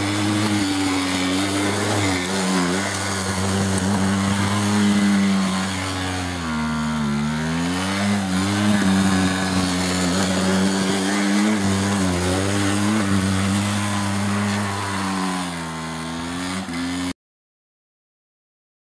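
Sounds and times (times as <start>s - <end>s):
small atv engine revving: 0.0s - 17.2s.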